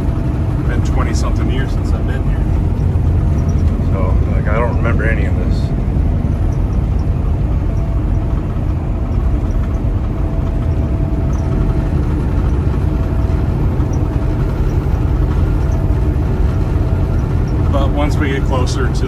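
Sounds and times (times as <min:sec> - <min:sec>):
faint constant whine: 0:00.0 - 0:19.0
truck engine and road rumble: 0:00.0 - 0:19.0.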